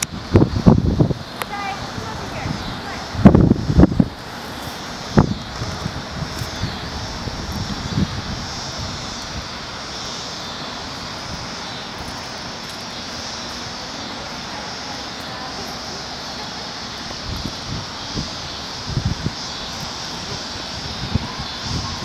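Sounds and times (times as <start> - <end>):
starlings chattering: 0.0 - 22.0.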